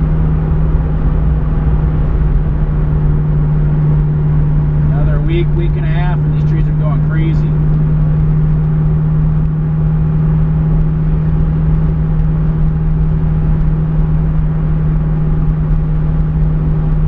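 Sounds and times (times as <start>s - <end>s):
car engine droning at high revs: 0.0s - 17.0s.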